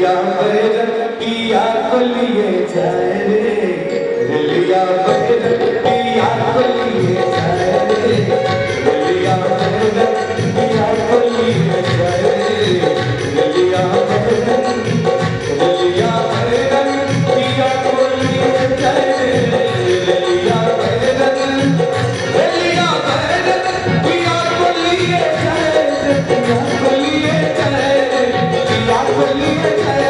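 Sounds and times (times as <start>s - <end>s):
held melody line: 1.2s - 30.0s
hand drum beating: 5.1s - 30.0s.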